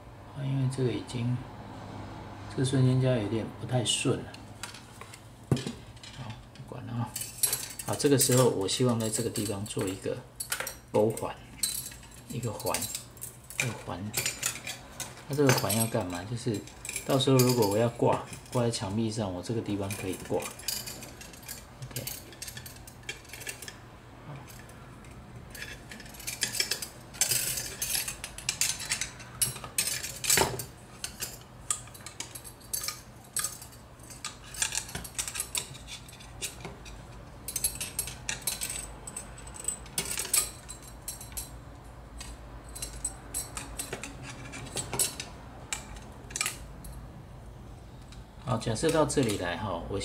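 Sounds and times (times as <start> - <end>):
metal wire clicking and scraping: 4.6 - 47.0, 47.9 - 49.6.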